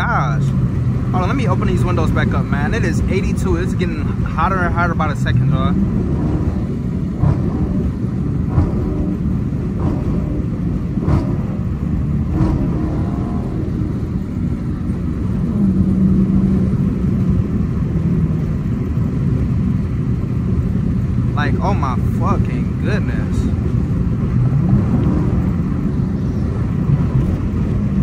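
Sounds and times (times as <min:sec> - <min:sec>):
car engine droning: 0:00.0 - 0:28.0
road noise: 0:00.0 - 0:28.0
wind noise: 0:00.0 - 0:28.0.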